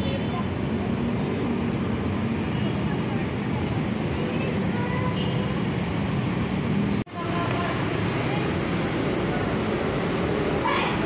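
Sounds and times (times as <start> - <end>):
city traffic: 0.0 - 11.0.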